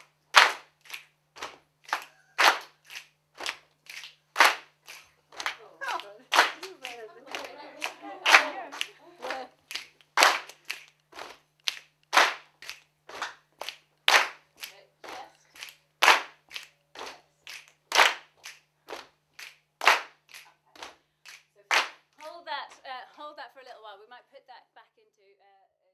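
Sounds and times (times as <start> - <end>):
people clapping in unison: 0.0 - 22.9.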